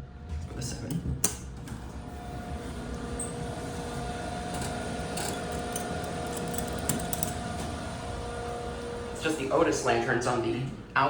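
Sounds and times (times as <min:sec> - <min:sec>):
elevator low rumble: 0:00.0 - 0:11.0.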